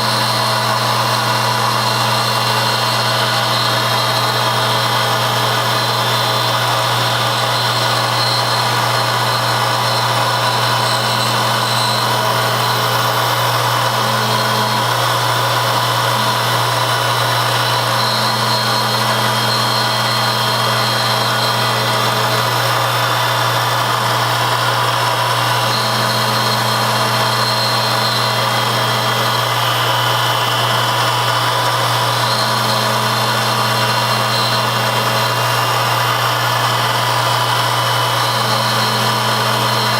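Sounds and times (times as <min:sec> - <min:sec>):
higher machine hum: 0:00.0 - 0:39.9
machine tool humming: 0:00.0 - 0:39.9.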